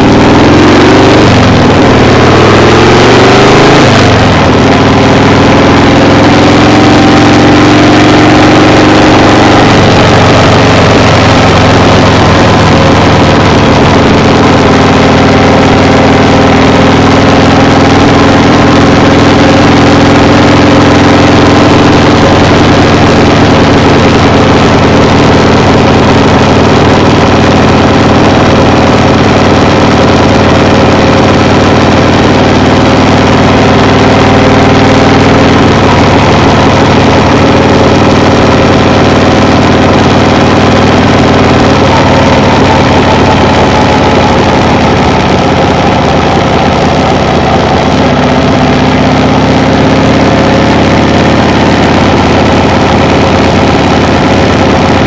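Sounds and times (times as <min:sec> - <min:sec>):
engine drone with held tones: 0:00.0 - 0:55.0
wide rushing noise: 0:00.0 - 0:55.0.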